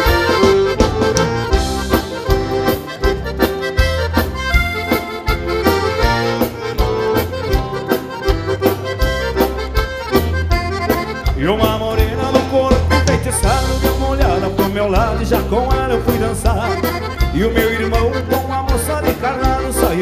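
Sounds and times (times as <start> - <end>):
bass: 0.0 - 20.0
button accordion melody: 0.0 - 20.0
steady drum beat: 0.0 - 20.0.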